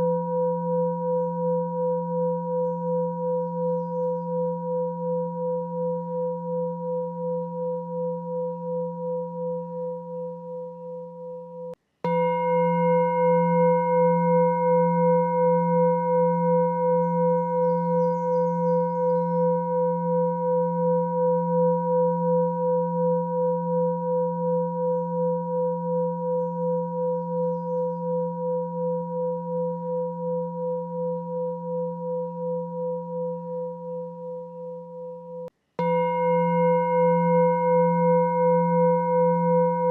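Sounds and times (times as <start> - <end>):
pulsing meditation tone: 0.0 - 39.9.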